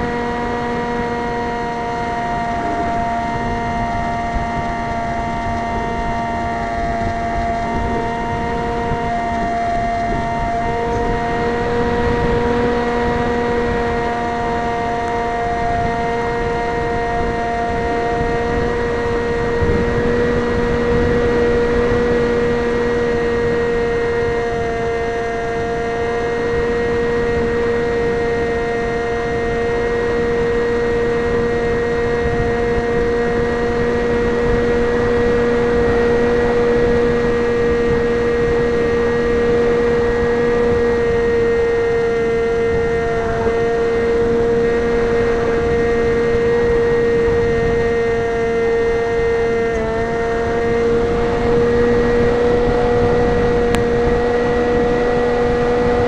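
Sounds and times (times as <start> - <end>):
model plane propeller motor: 0.0 - 56.0
wind rushing over microphone: 0.0 - 56.0.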